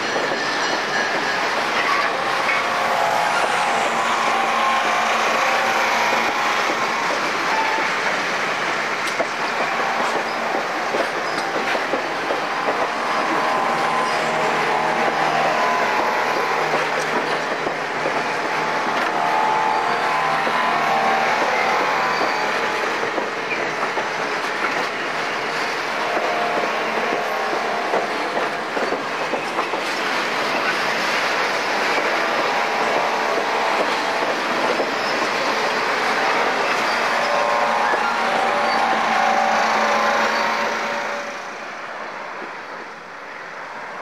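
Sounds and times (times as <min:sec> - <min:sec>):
train wheels rumbling on rails: 0:00.0 - 0:43.7.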